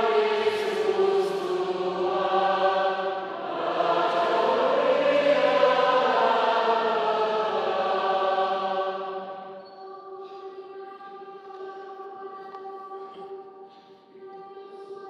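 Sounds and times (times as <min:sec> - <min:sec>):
choir singing: 0:00.0 - 0:13.4.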